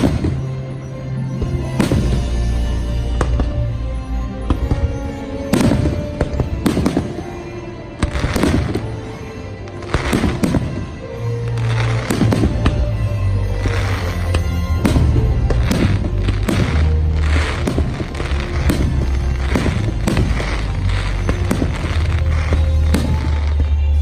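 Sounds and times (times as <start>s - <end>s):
fireworks bangs: 0.0s - 0.6s, 1.4s - 2.6s, 4.5s - 9.2s, 9.9s - 24.0s
music: 0.0s - 24.0s.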